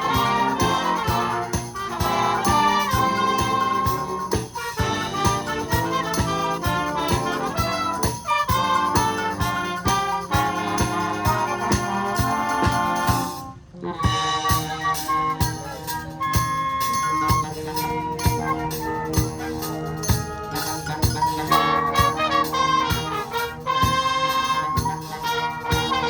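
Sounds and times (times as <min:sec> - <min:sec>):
percussion beat: 0:00.0 - 0:26.0
wind band playing: 0:00.0 - 0:26.0.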